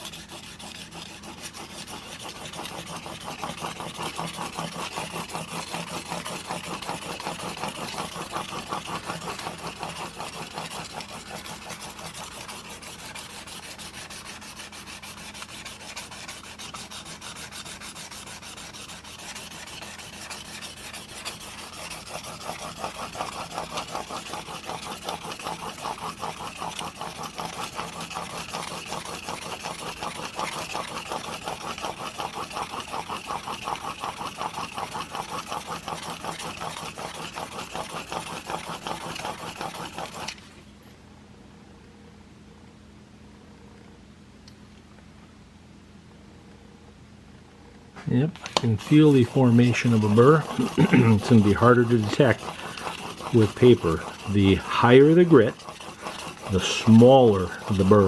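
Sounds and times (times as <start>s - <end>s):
blade honed on sharpening plate: 0.0s - 40.4s, 48.4s - 58.0s.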